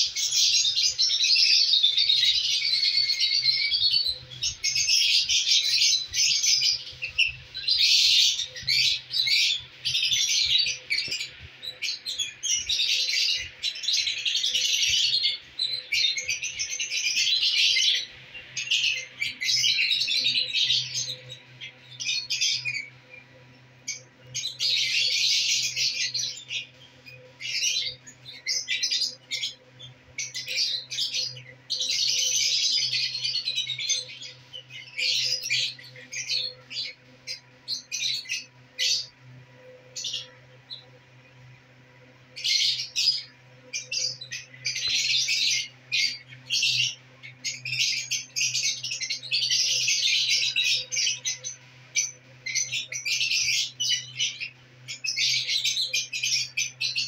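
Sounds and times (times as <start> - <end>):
birds chirping and squawking: 0.0 - 57.0.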